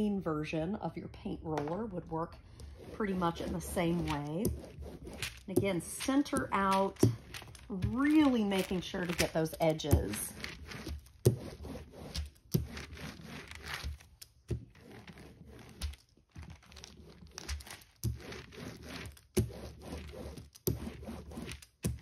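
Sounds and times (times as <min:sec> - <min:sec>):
paper rustling under a roller: 0:02.5 - 0:22.0.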